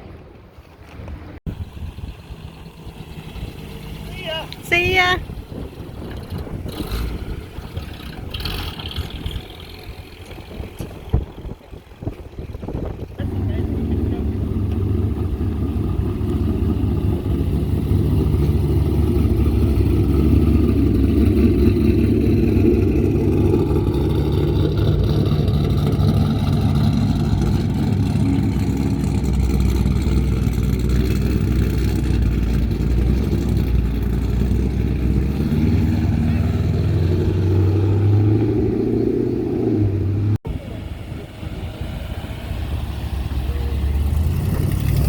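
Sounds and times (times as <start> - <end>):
car engine rumbling: 1.1 - 45.0.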